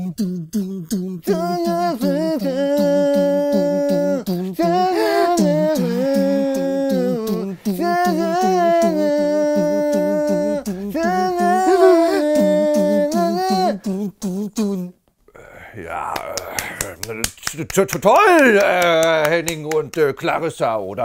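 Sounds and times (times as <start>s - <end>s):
person singing wordless melody: 0.0s - 17.0s.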